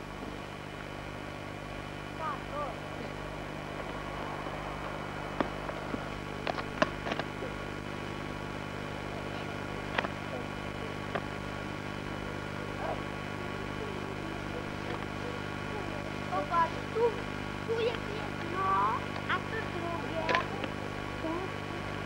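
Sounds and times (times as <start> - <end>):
electrical hum: 0.0 - 22.0
tape hiss: 0.0 - 22.0.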